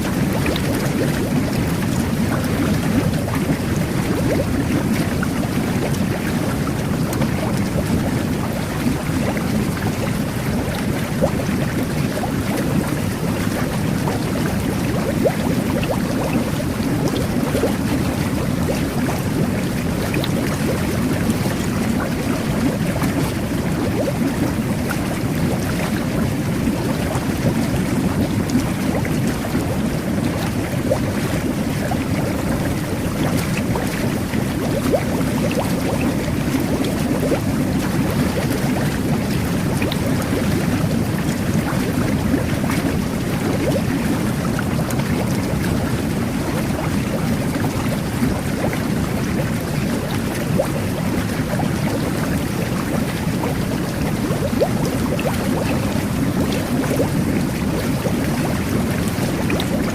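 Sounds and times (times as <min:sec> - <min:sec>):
water churning and bubbling: 0:00.0 - 0:59.9.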